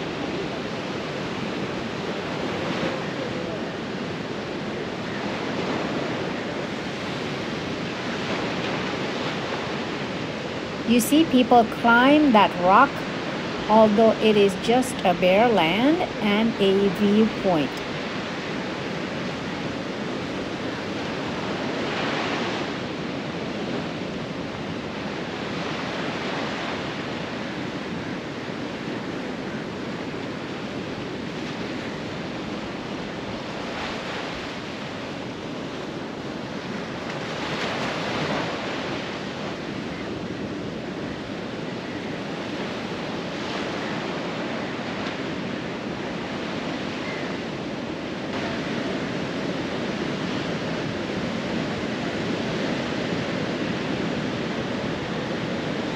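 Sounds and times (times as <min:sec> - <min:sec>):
ocean surf breaking on beach: 0:00.0 - 0:55.9.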